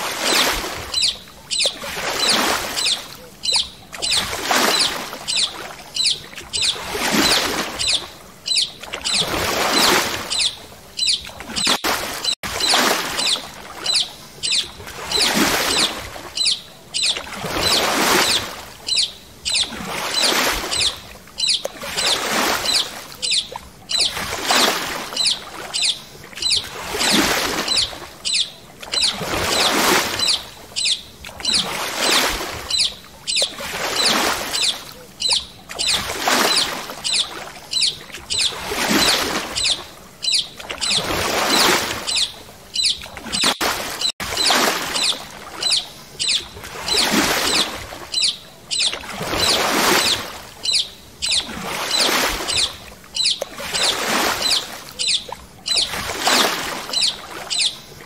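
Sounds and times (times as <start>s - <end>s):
paddle strokes splashing water: 0.0s - 58.0s.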